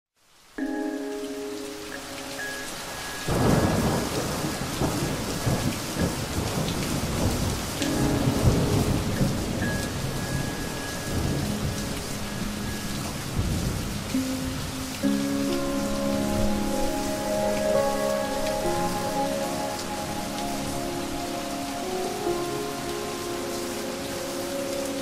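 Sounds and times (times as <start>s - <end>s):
steady rain: 0.2s - 25.0s
thunder rumbling: 2.7s - 25.0s.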